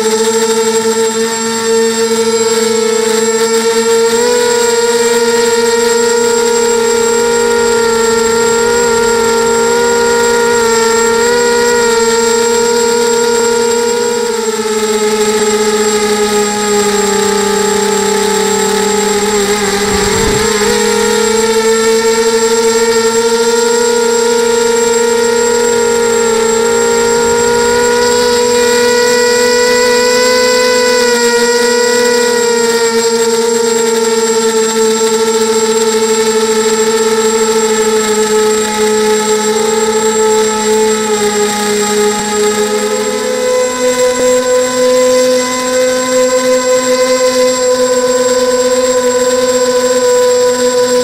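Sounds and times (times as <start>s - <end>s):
quadcopter motors whining: 0.0s - 51.0s.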